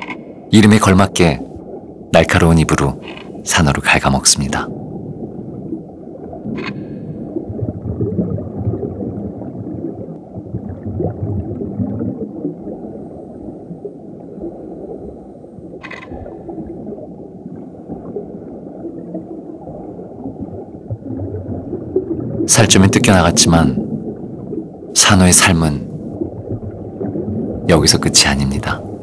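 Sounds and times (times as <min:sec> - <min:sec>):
underwater water rumble: 0:01.2 - 0:25.0, 0:25.7 - 0:29.0.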